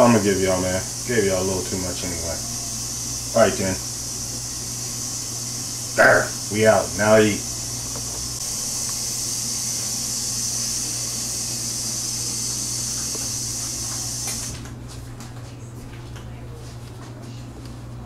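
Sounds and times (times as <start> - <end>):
high hiss: 0.0 - 14.6.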